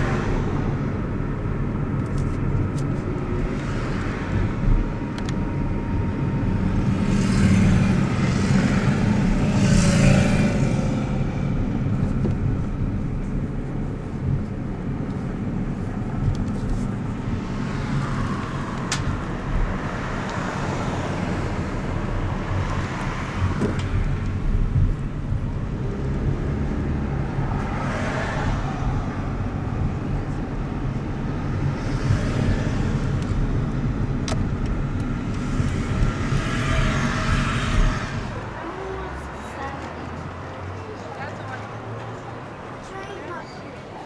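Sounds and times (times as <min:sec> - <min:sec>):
vehicle rumble: 0:00.0 - 0:44.0.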